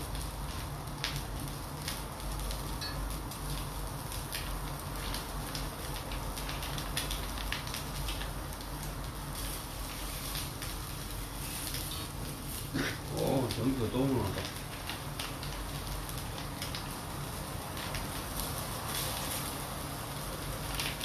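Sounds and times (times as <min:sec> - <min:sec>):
skewers sizzling on grill: 0:00.0 - 0:21.0.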